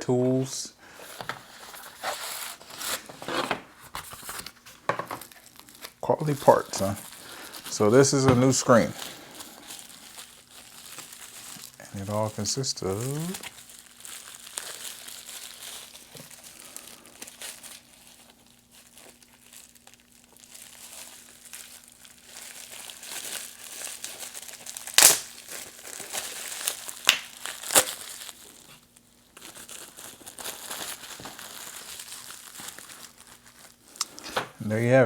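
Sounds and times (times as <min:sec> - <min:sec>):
plastic packaging crinkling: 0:00.9 - 0:35.0.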